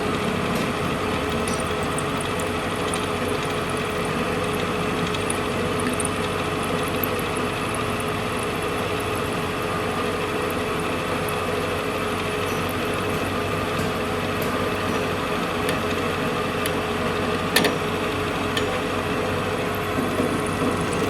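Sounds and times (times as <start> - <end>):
machine humming steadily: 0.0 - 21.0.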